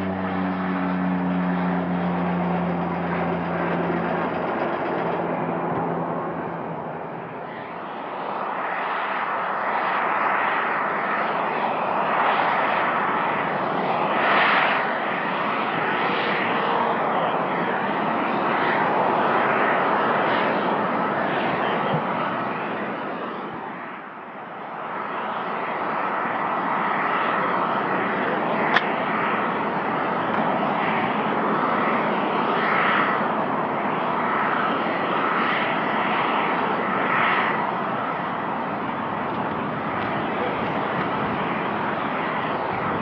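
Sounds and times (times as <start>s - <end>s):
jet engines rushing: 0.0s - 43.0s.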